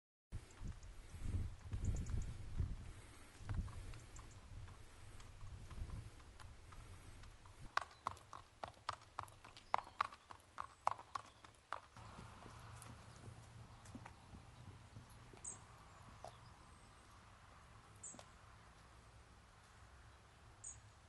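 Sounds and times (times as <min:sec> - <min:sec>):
horse hooves on pavement: 0:00.5 - 0:20.0.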